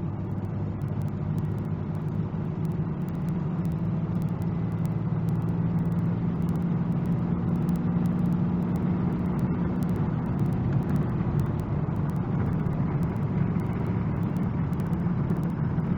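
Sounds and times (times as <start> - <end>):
diesel engine running: 0.0 - 15.9
road noise: 0.0 - 15.9.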